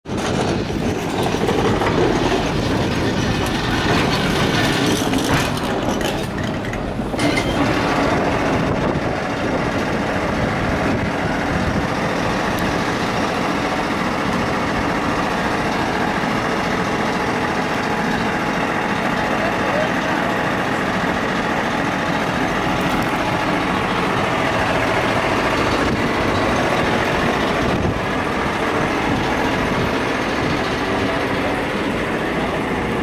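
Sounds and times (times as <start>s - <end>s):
funicular car running on rails: 0.0s - 33.0s.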